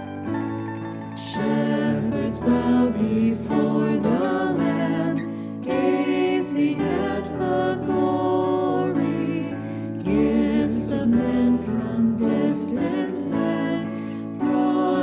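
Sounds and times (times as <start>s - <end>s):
slow hymn music: 0.0s - 15.0s
people singing a hymn: 1.2s - 15.0s.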